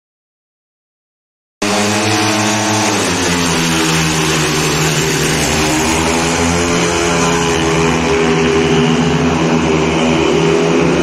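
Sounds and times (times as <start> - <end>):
motorcycle engines racing: 1.6 - 11.0.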